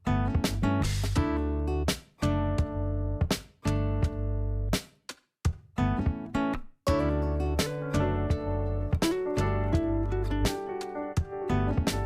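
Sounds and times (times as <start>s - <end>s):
background music with guitar chords: 0.0s - 4.8s, 5.8s - 12.0s.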